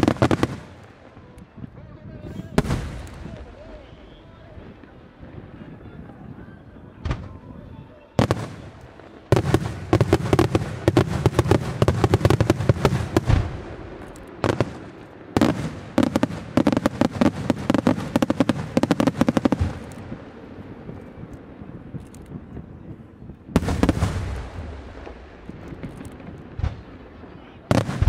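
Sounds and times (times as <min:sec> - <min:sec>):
fireworks bursting with sharp bangs: 0:00.0 - 0:28.0.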